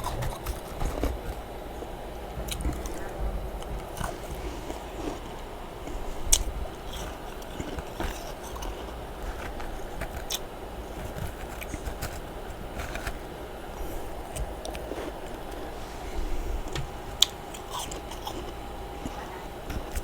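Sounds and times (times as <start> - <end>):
frost being chewed: 0.0 - 20.0.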